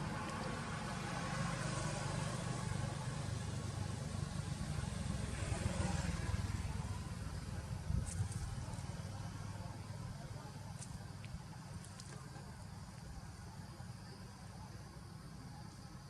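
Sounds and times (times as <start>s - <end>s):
low engine hum: 0.0s - 14.7s.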